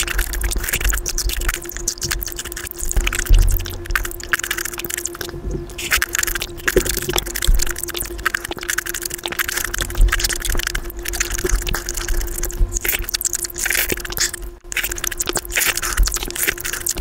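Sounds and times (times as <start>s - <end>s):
biting into fruit: 0.0s - 17.0s
faint steady hum: 0.0s - 17.0s
sped-up wet chewing: 0.0s - 17.0s.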